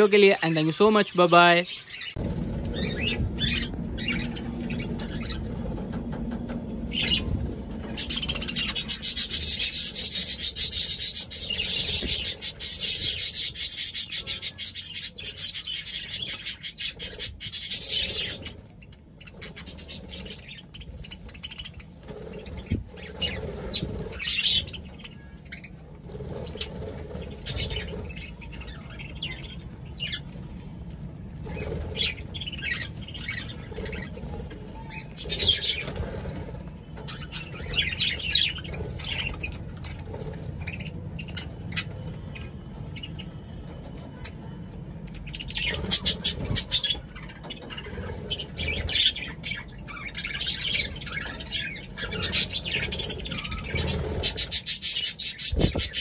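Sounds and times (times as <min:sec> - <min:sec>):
birds rustling and chattering: 0:00.0 - 0:56.0.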